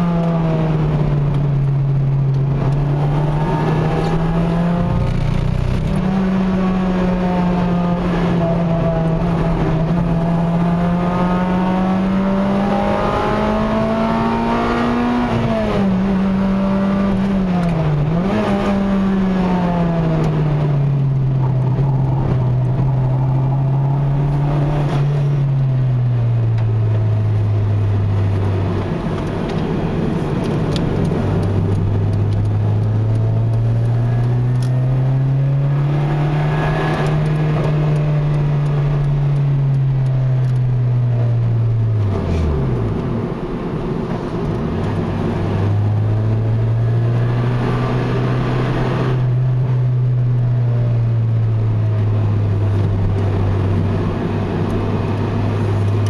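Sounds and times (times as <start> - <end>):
car engine from inside cabin: 0.0 - 56.0
road noise: 0.0 - 56.0.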